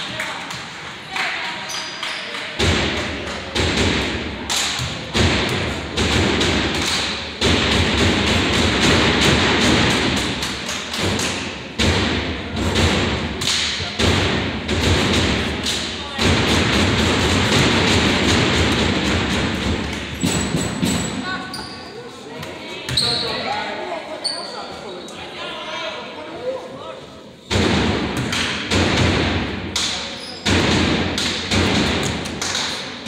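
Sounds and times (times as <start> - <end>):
crowd noise: 0.0 - 33.0.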